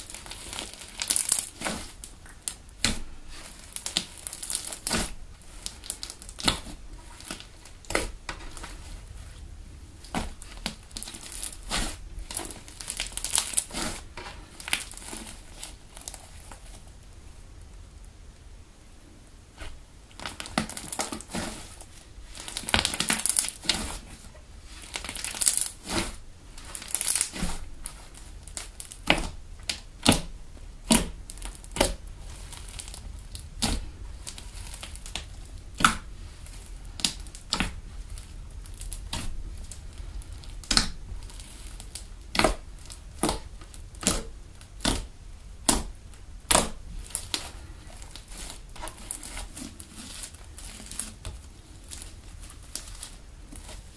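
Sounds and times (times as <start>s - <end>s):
foam slime crackling: 0.0s - 17.2s, 19.5s - 53.9s.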